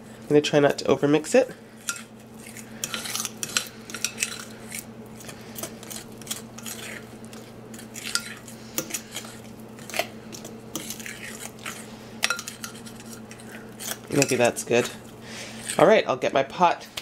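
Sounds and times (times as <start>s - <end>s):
fork scraping mixing bowl: 0.0s - 16.0s
faint steady hum: 0.0s - 17.0s.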